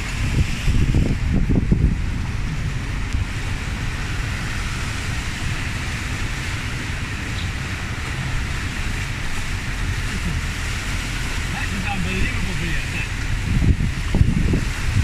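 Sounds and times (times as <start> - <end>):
car engine and road rumble: 0.0 - 15.0
water hissing around tyres: 0.0 - 15.0.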